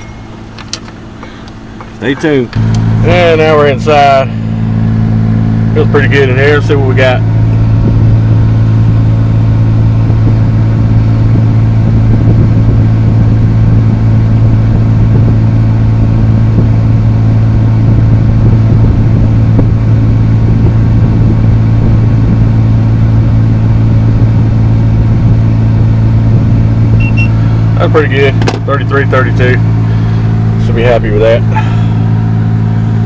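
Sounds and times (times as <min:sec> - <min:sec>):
air conditioning blower fan hum: 0:00.0 - 0:33.0
car engine idling: 0:00.0 - 0:33.0.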